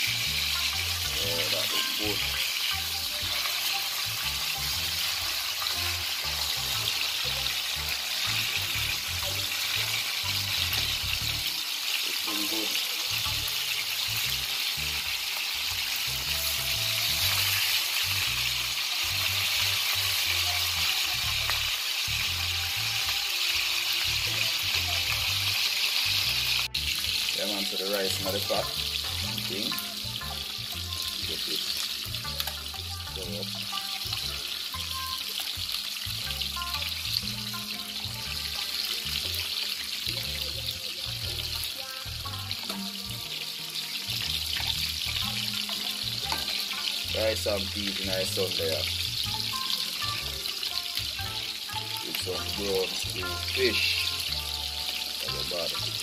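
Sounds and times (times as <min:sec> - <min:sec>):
background music with bass line: 0:00.0 - 0:56.0
fish sizzling in hot oil: 0:00.0 - 0:56.0.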